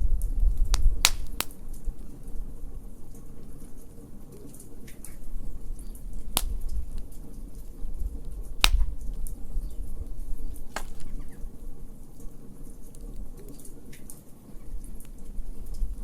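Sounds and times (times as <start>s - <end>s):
faint ticks of fire: 0.0s - 16.0s
low rumble of flames: 0.0s - 16.0s
wood fire pops: 0.0s - 16.0s.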